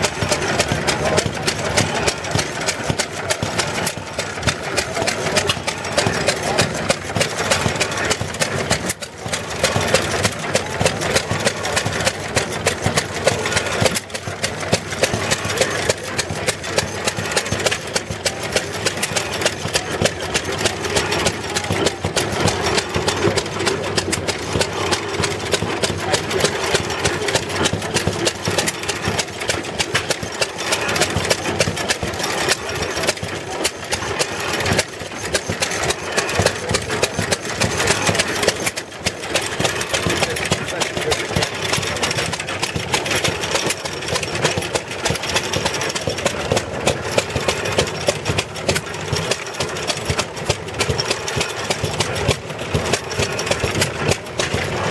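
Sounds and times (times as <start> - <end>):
stationary engine popping: 0.0 - 54.9.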